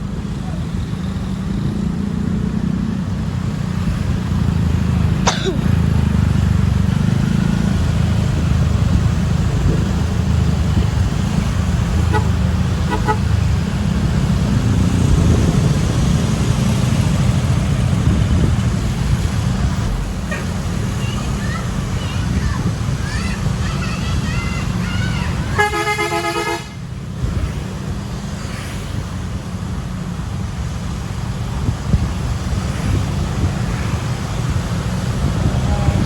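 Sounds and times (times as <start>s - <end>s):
bus engines and traffic rumble: 0.0s - 36.0s.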